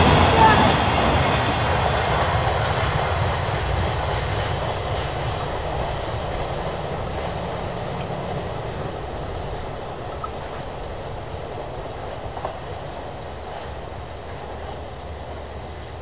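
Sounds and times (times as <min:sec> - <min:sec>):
low rumbling rushing noise: 0:00.0 - 0:16.0.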